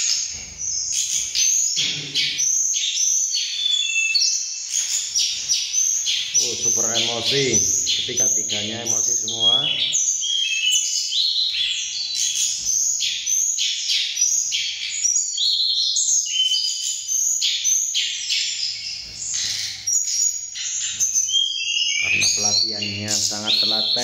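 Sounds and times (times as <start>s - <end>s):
songbirds chattering: 0.0s - 24.0s.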